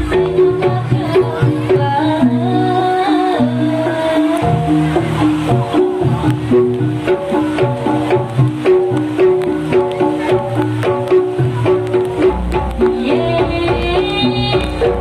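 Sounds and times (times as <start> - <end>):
gamelan music: 0.0 - 15.0
higher melodic line: 0.0 - 15.0
steady drum strokes: 0.0 - 15.0
struck metal notes: 0.0 - 15.0.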